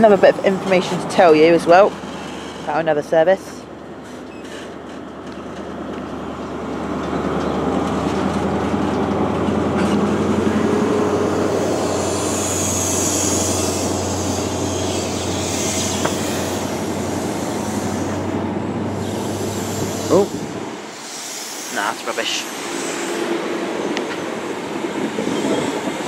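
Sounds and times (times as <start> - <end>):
diesel engine droning: 0.0 - 21.2
train coaches rumbling past: 0.0 - 26.0.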